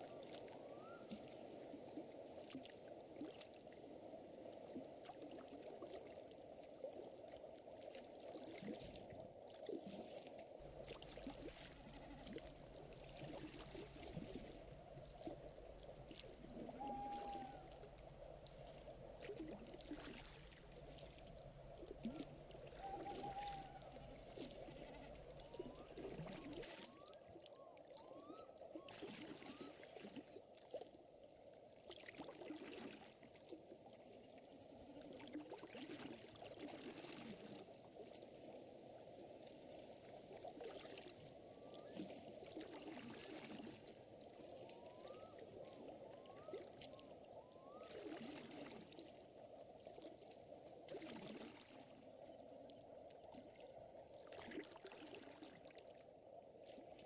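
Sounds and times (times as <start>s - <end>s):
water lapping and trickling: 0.0s - 57.0s.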